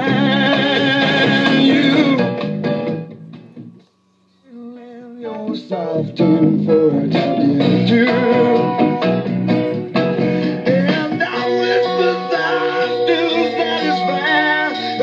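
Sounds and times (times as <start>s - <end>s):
record with singing and guitar: 0.0s - 15.0s.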